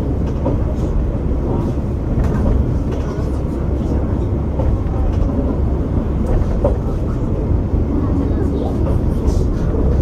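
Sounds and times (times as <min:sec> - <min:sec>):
railcar engine and wheel rumble: 0:00.0 - 0:10.0.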